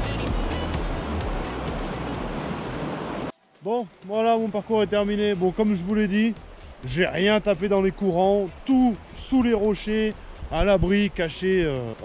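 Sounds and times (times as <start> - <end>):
background music: 0.0 - 12.0
river rushing over riffles: 0.0 - 12.0.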